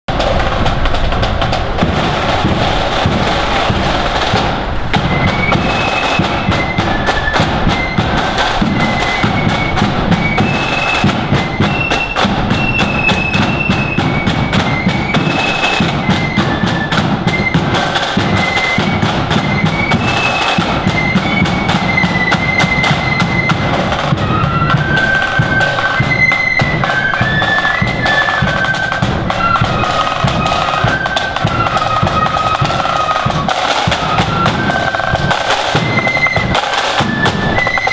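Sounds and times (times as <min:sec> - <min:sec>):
flute melody: 0:00.1 - 0:37.9
snare drum rolls: 0:00.1 - 0:37.9.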